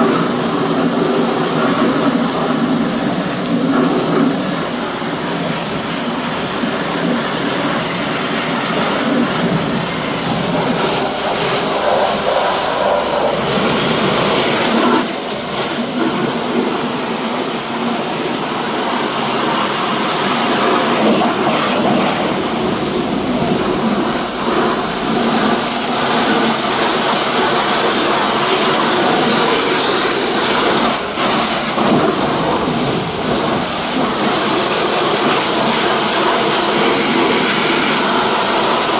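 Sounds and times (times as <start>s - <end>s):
car wash machinery rushing hiss: 0.0s - 38.9s.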